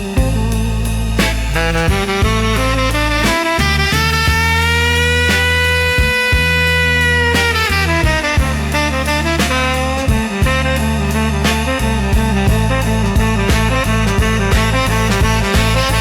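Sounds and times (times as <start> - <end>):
bass line: 0.0 - 16.0
drum beats: 0.0 - 16.0.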